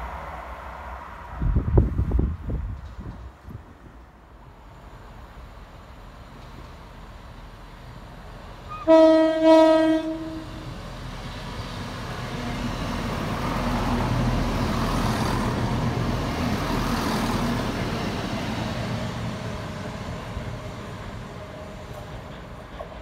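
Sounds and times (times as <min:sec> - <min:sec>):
diesel train engine rumble: 0:00.0 - 0:23.0
train wheels on rails: 0:00.0 - 0:23.0.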